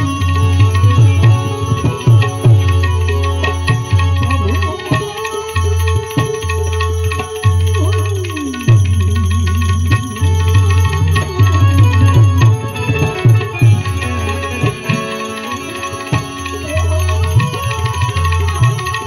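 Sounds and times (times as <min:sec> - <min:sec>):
harmonium sustained tones: 0:00.0 - 0:19.0.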